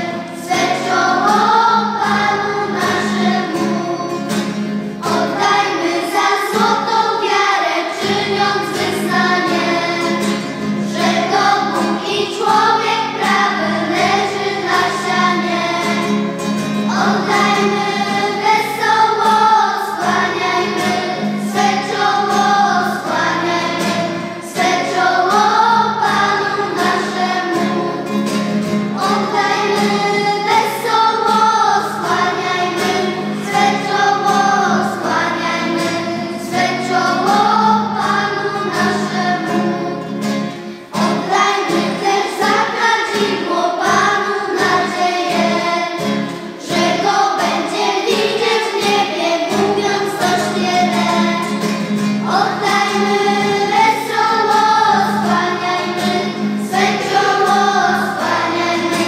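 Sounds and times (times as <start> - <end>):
acoustic guitar: 0.0 - 59.0
children's choir singing: 0.0 - 59.0.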